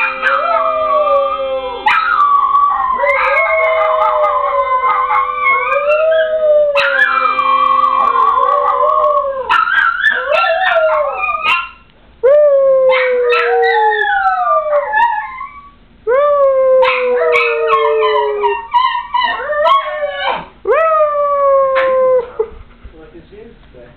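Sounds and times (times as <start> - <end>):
dogs howling: 0.0 - 11.8, 12.6 - 22.4.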